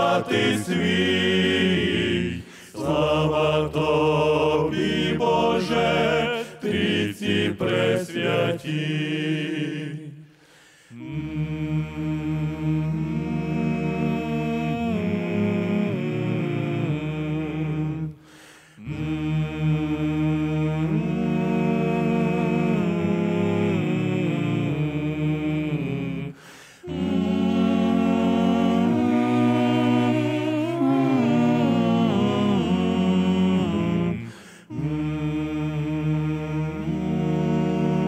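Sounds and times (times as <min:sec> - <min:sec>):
male choir singing a cappella: 0:00.0 - 0:38.0.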